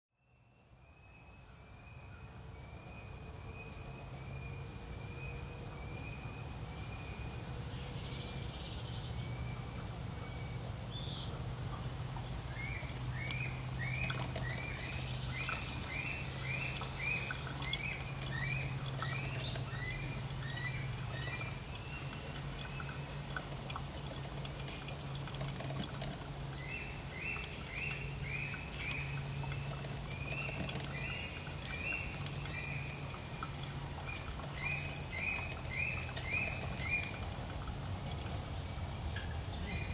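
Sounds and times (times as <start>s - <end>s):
low steady hum: 0.2s - 39.9s
birds chirping: 2.0s - 39.9s.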